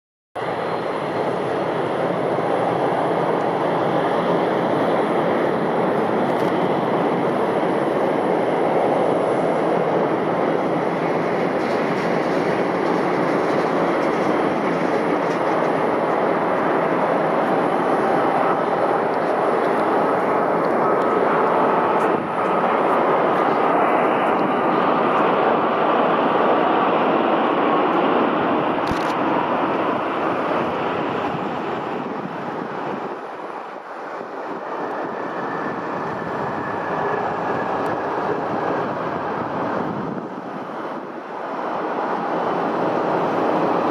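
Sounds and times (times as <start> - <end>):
jet engines roaring: 0.4 - 43.9.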